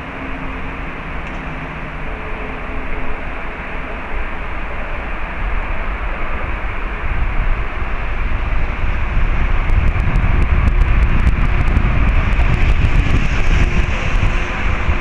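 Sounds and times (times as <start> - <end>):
locomotive engine and wheels rumbling: 0.0 - 15.0.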